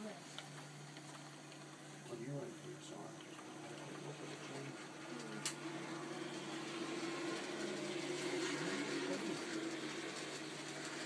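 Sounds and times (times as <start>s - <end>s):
model train motor humming: 0.0s - 11.0s.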